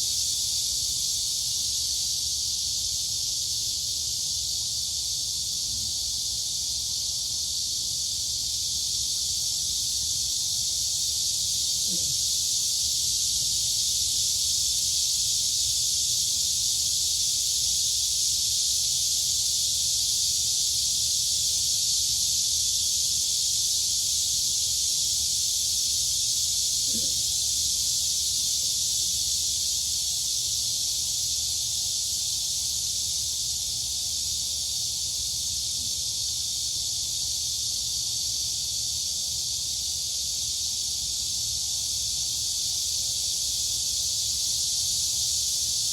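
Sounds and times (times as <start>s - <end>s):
crickets and cicadas droning: 0.0s - 45.9s.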